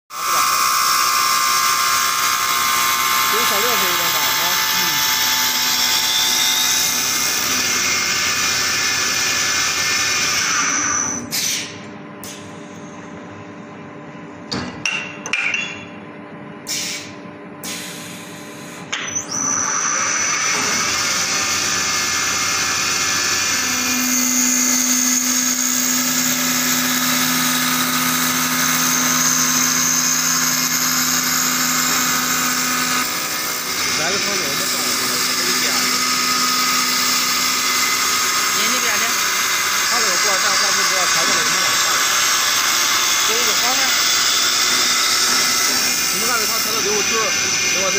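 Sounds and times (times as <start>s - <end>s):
motor hum: 0.1s - 11.3s, 16.0s - 47.9s
lathe cutter hissing on wood: 0.1s - 11.7s, 17.7s - 47.9s.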